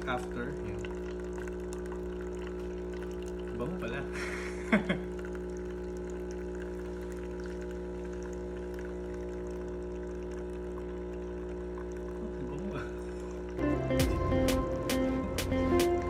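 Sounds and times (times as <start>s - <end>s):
coffee pouring into metal mug: 0.0s - 13.6s
coffee machine pump humming: 0.0s - 14.3s.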